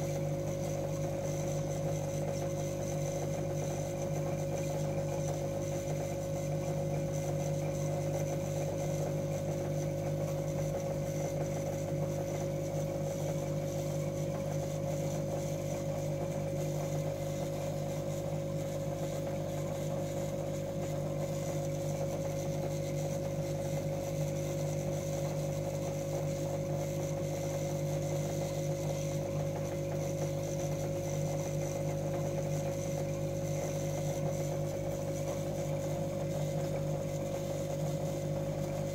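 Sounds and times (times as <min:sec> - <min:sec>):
aquarium air pump humming: 0:00.0 - 0:38.9.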